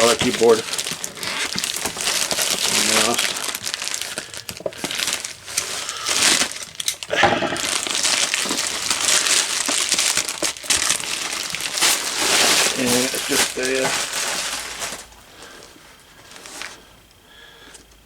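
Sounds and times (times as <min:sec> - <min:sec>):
packaging crinkling and rustling: 0:00.0 - 0:17.9.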